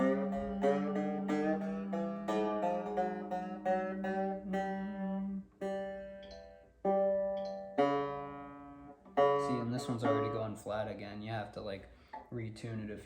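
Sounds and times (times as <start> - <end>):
banjo strings plucked: 0.0 - 11.8.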